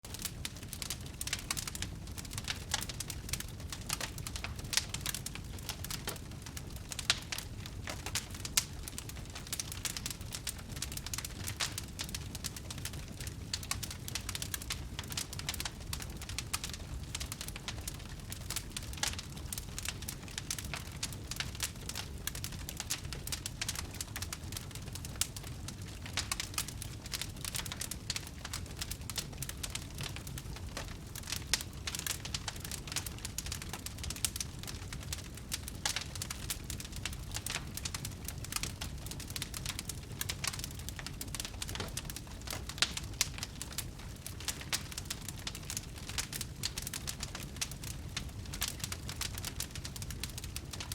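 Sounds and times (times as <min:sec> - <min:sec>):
fire crackling: 0:00.0 - 0:50.9.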